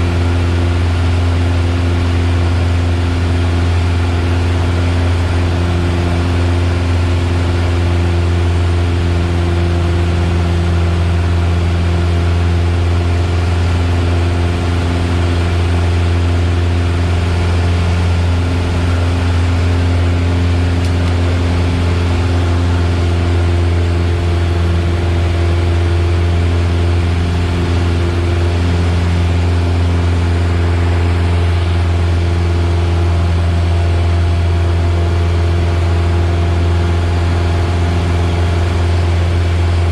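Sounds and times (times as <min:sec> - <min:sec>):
plane engine and propeller droning: 0:00.0 - 0:39.9.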